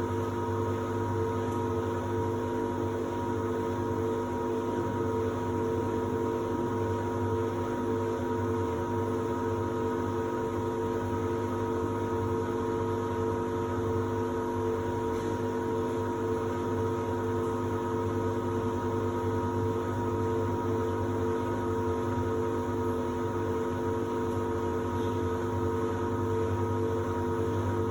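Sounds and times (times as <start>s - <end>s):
washer-dryer humming: 0.0s - 27.9s.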